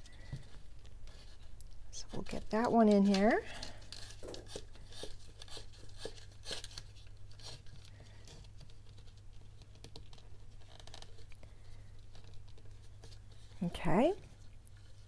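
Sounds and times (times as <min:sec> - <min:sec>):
lace scratching and rustling: 0:00.0 - 0:15.0.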